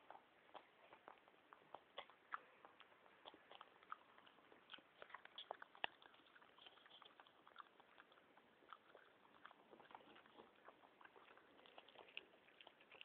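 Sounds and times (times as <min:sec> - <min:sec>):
dog chewing gum: 0:00.0 - 0:13.0.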